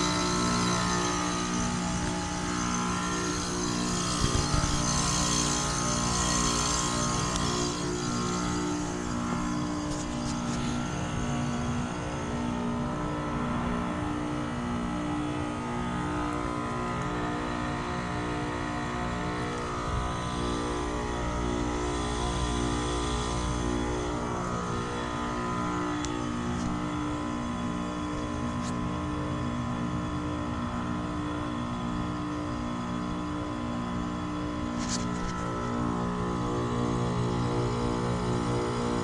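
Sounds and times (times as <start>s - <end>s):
heat pump compressor and fan hum: 0.0s - 39.0s.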